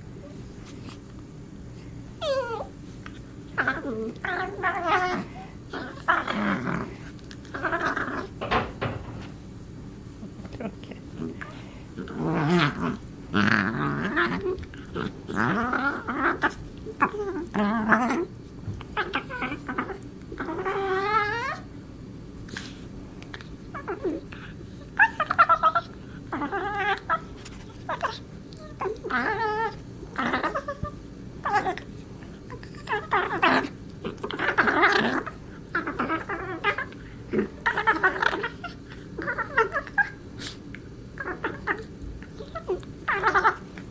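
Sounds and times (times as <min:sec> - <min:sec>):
dog warbling growl-whines: 0:02.2 - 0:02.9, 0:03.5 - 0:09.2, 0:11.1 - 0:21.7, 0:23.7 - 0:43.9.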